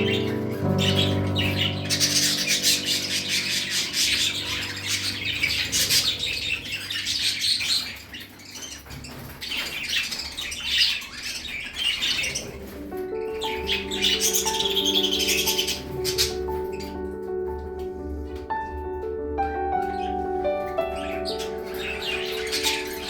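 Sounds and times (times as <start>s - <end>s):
budgies chirping and squawking: 0.0s - 23.0s.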